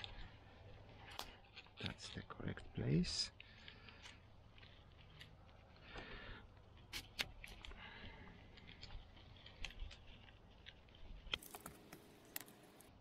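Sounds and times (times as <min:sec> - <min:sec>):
light plastic clicks and rustles: 0:00.0 - 0:12.9.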